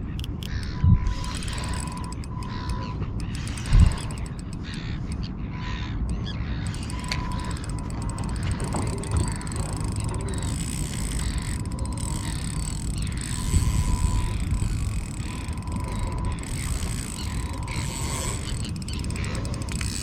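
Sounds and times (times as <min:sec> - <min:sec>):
fishing reel clicking: 0:00.0 - 0:20.0.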